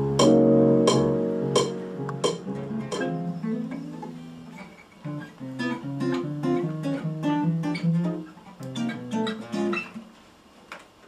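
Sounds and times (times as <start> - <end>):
acoustic guitar picking: 0.0 - 10.0.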